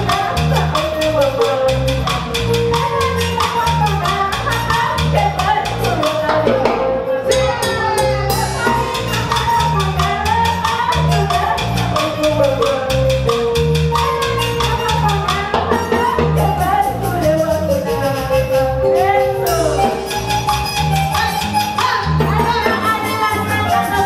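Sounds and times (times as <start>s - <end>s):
woman singing into a microphone: 0.0s - 20.2s, 21.0s - 24.0s
acoustic guitar: 0.0s - 24.0s
drums: 0.0s - 24.0s
electric bass: 0.0s - 24.0s
fast percussion beat: 0.0s - 24.0s.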